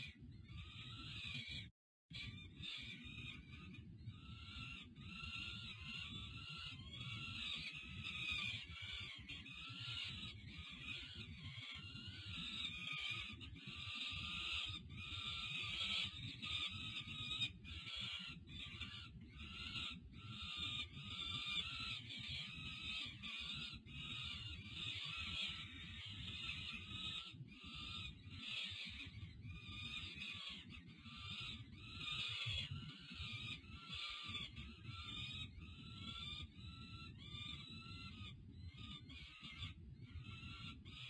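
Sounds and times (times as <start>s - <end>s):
falcon chicks begging calls: 0.0s - 1.6s, 2.2s - 41.0s.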